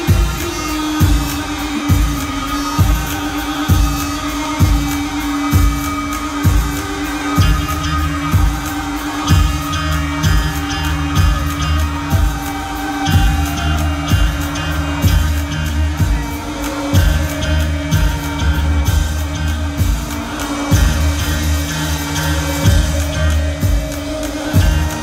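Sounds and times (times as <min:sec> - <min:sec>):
live band playing: 0:00.0 - 0:25.0
person singing: 0:00.0 - 0:25.0.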